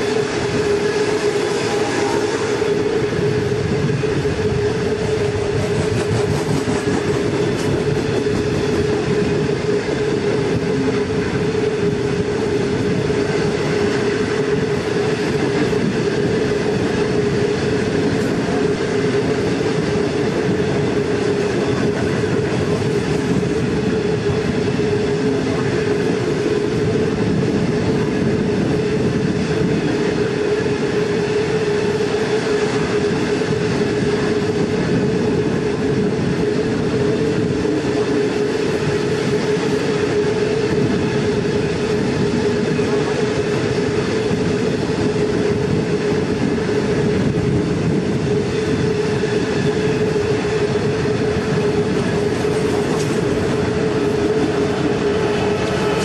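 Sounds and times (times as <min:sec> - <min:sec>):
train wagons rolling on rails: 0:00.0 - 0:56.0.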